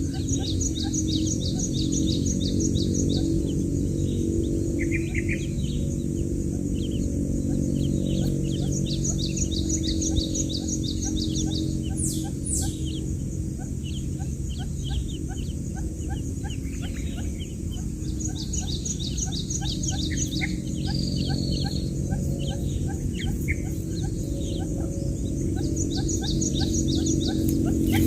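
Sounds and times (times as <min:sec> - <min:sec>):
chicks peeping: 0:00.0 - 0:28.0
low hum: 0:00.0 - 0:28.0.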